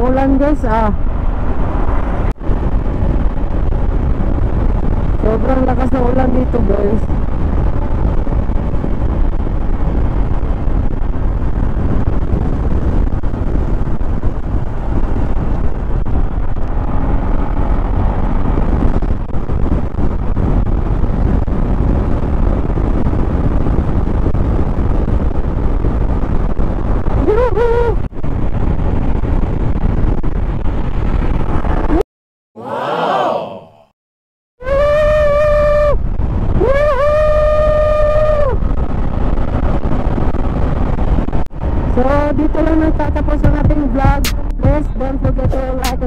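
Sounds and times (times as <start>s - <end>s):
wind buffeting microphone: 0.0s - 32.0s, 34.6s - 46.0s.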